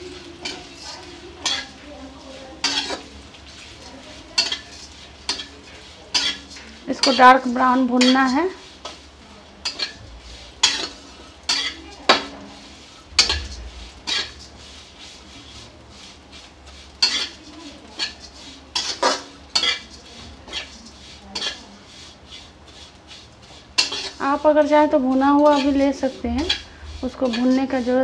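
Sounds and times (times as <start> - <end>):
metal spatula scraping a metal pan: 0.0 - 28.0.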